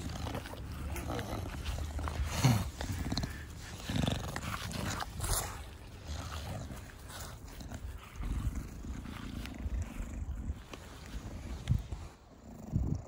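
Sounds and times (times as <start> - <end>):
dog grunting and snuffling: 0.0 - 13.0
dog snorting: 0.0 - 13.0.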